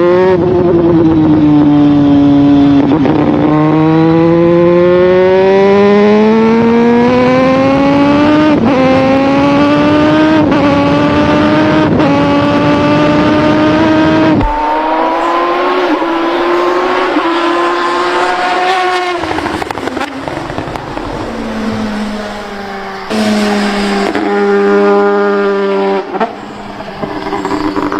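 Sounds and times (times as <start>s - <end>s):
rotary engine accelerating: 0.0s - 27.9s.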